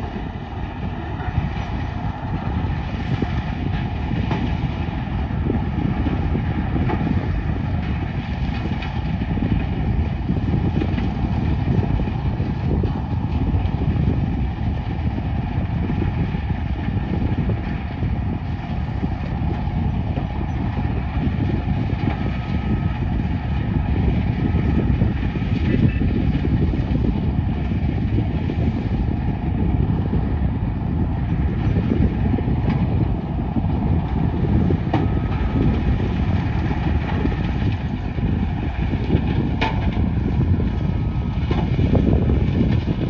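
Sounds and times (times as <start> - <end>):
heavy diesel machinery rumbling: 0.0 - 43.0.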